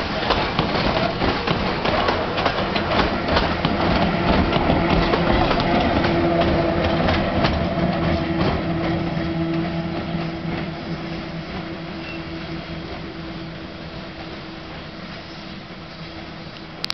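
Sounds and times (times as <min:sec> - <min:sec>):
train running hum: 0:00.0 - 0:16.9
train wheels clacking: 0:00.0 - 0:16.9.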